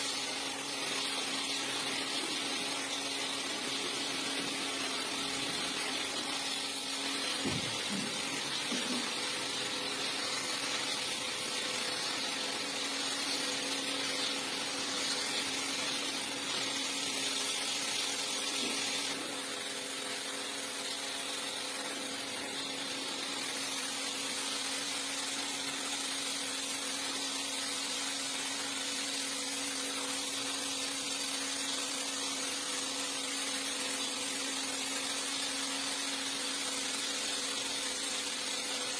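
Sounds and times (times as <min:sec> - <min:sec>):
rug-cleaning machine humming: 0:00.0 - 0:38.9.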